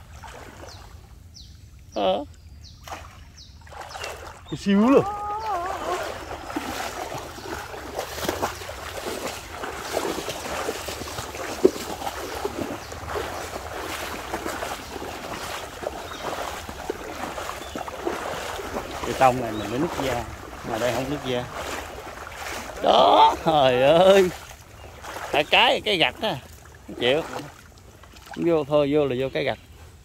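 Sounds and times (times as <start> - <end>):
legs wading through water: 0.0 - 30.0.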